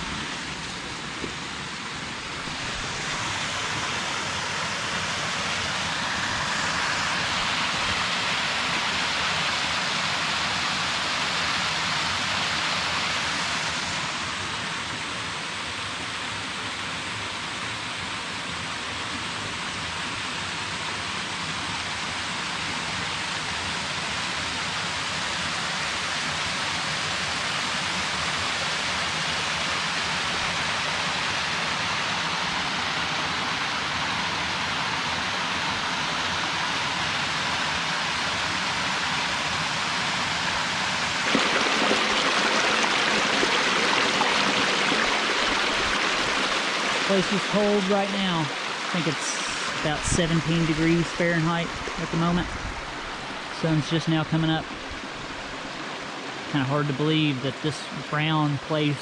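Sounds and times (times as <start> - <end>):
creek water rushing over rocks: 0.0 - 59.0.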